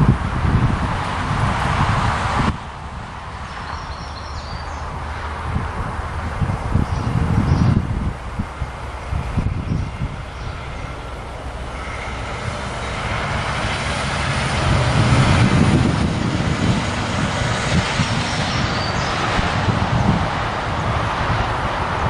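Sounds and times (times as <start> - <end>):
passing vehicle: 0.0 - 22.0
wind buffeting microphone: 0.0 - 22.0.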